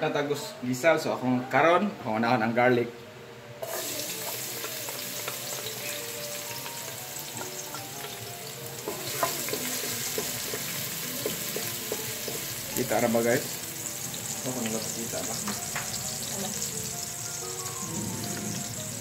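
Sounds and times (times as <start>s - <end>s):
garlic sizzling in oil: 3.6s - 19.0s.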